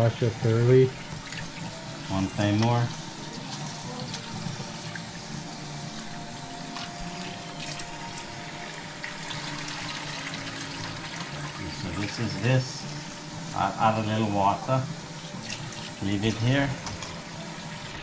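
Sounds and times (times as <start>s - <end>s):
faucet running into bowl: 0.0s - 18.0s.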